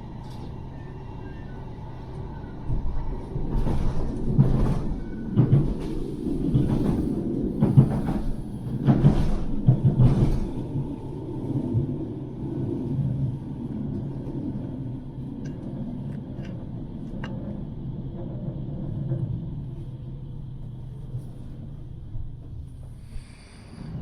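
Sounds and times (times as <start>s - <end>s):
tram rumbling: 0.0s - 24.0s.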